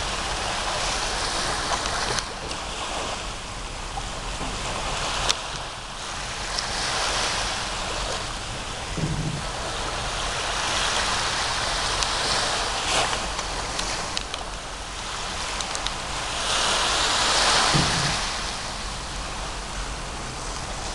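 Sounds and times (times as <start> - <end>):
small waves washing onto beach: 0.0 - 20.9.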